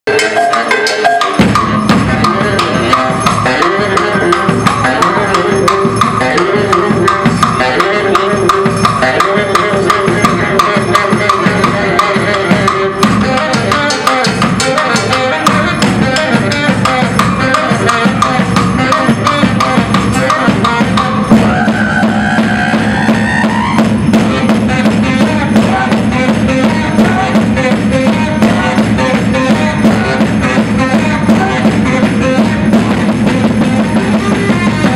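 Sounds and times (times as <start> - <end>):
drum strokes on blocks and cymbal: 0.1 - 34.9
baritone saxophone: 1.9 - 21.7, 22.6 - 34.9.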